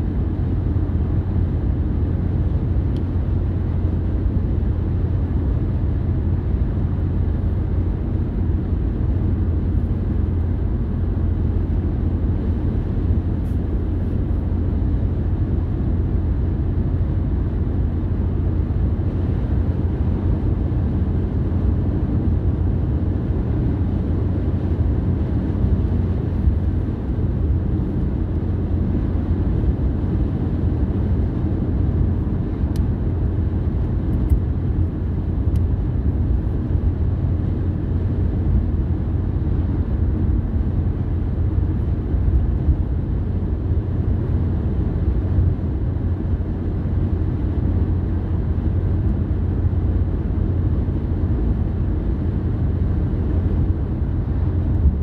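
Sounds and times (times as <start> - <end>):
car engine driving: 0.0 - 55.0.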